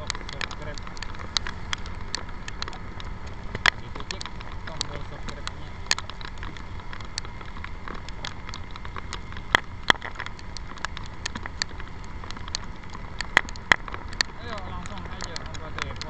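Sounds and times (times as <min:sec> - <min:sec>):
motorbike wind and engine rumble: 0:00.0 - 0:16.0
raindrops ticking on camera: 0:00.0 - 0:16.0.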